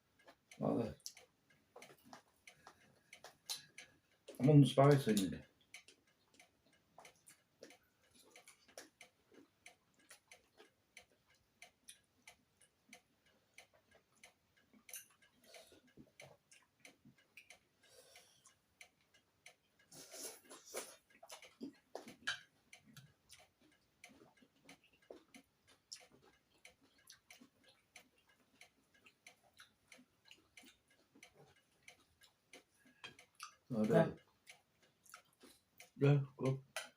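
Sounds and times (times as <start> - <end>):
person chewing: 0.1 - 4.4, 5.6 - 12.8, 13.5 - 36.0.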